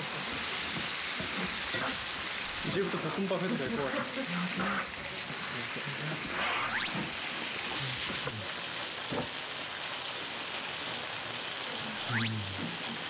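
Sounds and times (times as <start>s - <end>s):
chicken sizzling in a hot pan: 0.0s - 13.0s.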